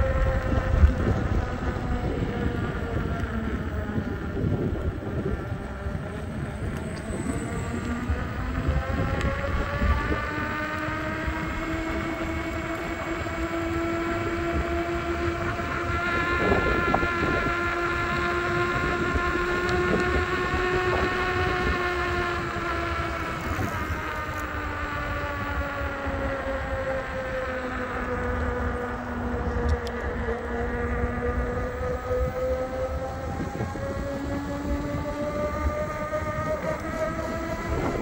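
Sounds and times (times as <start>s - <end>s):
electric motor whining: 0.0s - 38.0s
wind noise on microphone: 0.0s - 38.0s.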